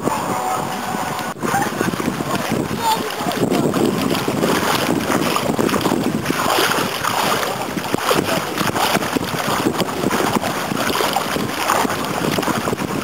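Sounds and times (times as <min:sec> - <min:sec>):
water lapping in shallows: 0:00.0 - 0:13.0
wind buffeting microphone: 0:00.0 - 0:13.0.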